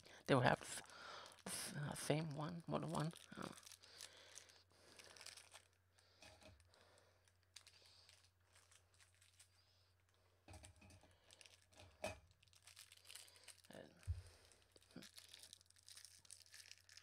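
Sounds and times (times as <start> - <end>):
candy wrappers crinkling: 0.1 - 17.0.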